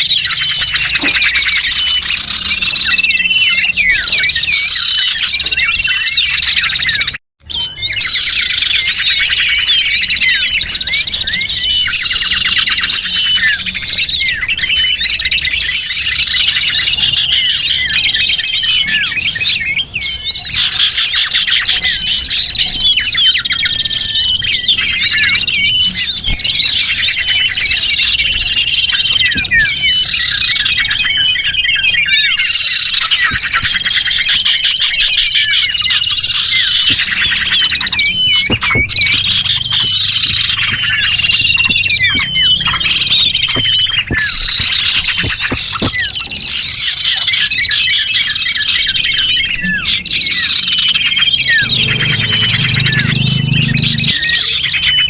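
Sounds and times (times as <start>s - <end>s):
high bird trills: 0.0s - 55.0s
small birds chirping: 0.0s - 55.0s.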